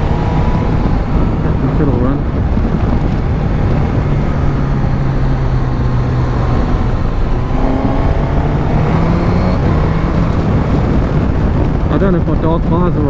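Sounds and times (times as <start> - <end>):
motorcycle engine running: 0.0 - 12.6
road noise: 0.0 - 13.0
wind noise: 0.0 - 13.0.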